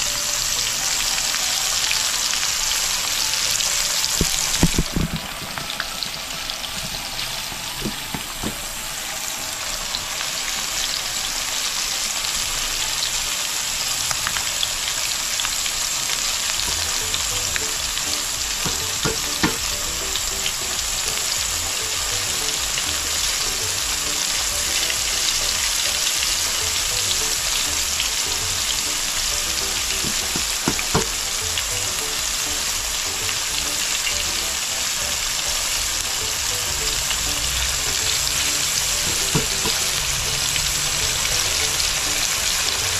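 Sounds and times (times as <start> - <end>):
fish frying in hot oil: 0.0 - 42.9.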